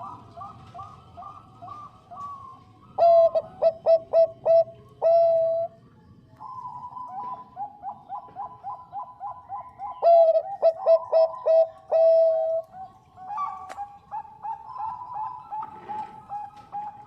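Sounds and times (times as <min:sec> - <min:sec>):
dove cooing: 0:00.0 - 0:05.8, 0:06.4 - 0:17.0.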